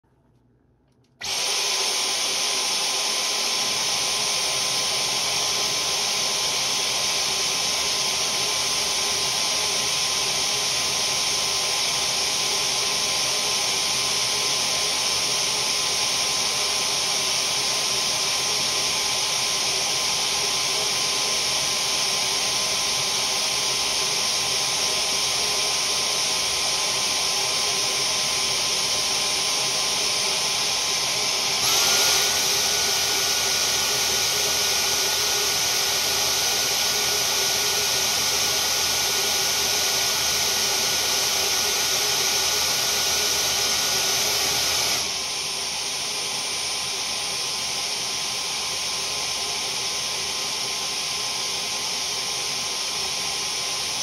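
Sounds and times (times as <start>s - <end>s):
cordless vacuum whining: 1.2s - 54.0s.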